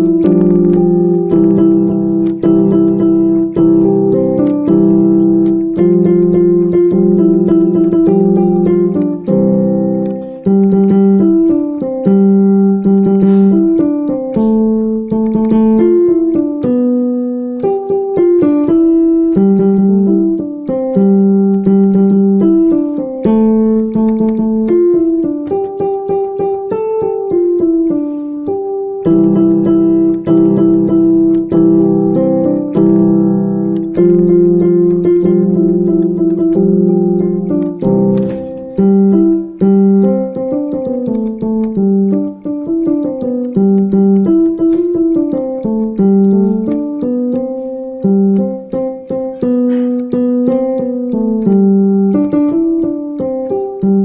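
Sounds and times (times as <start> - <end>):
low piano chords: 0.0 - 54.0
piano melody: 0.0 - 54.0.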